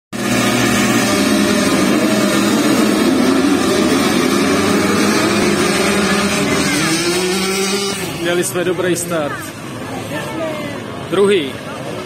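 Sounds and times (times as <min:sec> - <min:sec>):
motorcycles revving and accelerating: 0:00.2 - 0:11.2.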